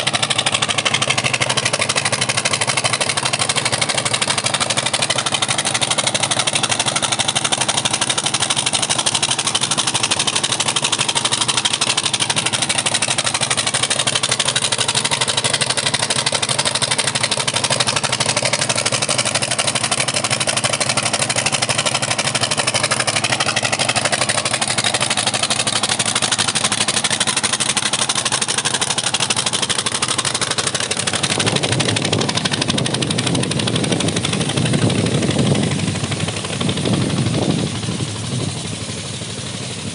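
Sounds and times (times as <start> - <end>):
deeper rumble: 0.0 - 39.9
engine running steadily: 0.0 - 39.9.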